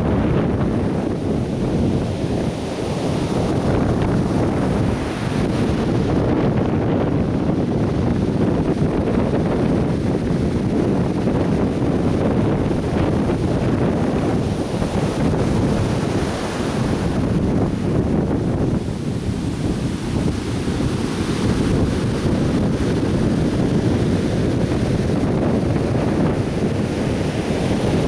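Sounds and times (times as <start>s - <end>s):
ocean surf washing onto beach: 0.0s - 28.0s
wind buffeting microphone: 0.0s - 28.0s.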